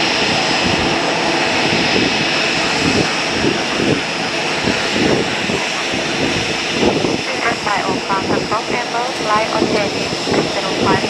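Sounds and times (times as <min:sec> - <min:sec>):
jet engines running with whine: 0:00.0 - 0:11.0.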